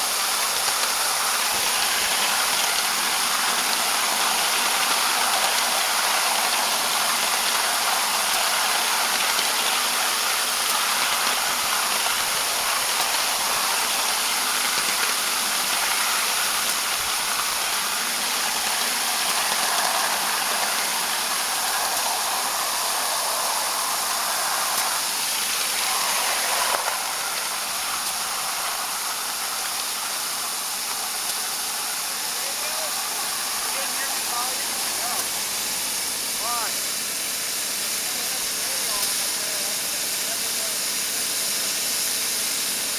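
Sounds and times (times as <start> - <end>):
steam hissing: 0.0 - 42.9.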